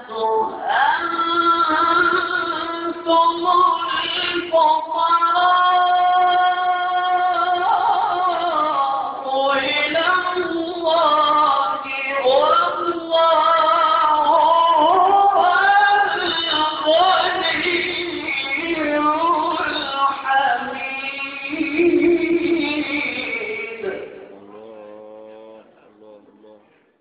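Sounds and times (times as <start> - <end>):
man reciting melodically: 0.0 - 27.0.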